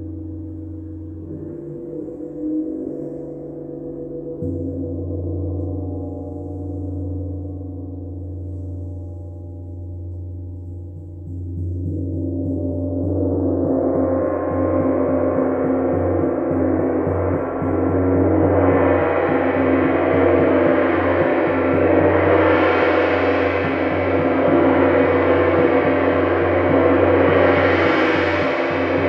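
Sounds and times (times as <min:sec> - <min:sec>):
steady low drone: 0:00.0 - 0:29.0.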